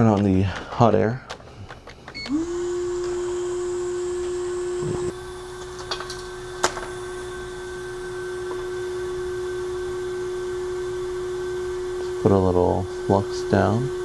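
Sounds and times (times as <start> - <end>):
blower fan whine: 1.3 - 14.0.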